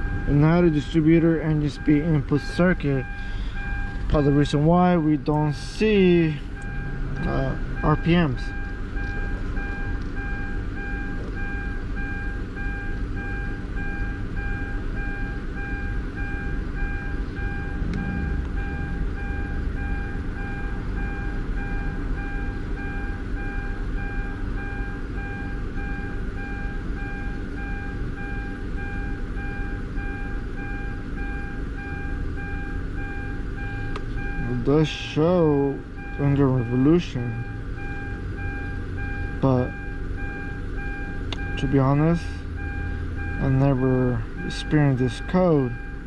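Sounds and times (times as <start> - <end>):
car engine idling: 0.0 - 46.0
car warning chime beeping: 0.0 - 46.0.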